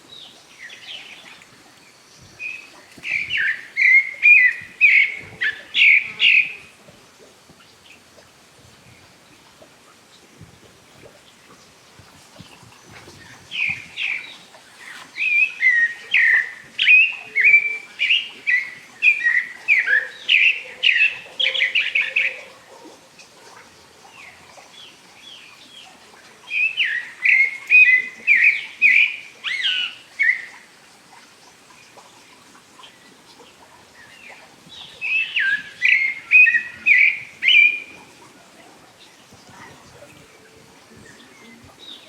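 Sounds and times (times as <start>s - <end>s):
songbird singing: 0.0s - 6.8s, 12.4s - 23.0s, 24.0s - 30.7s, 32.2s - 42.0s.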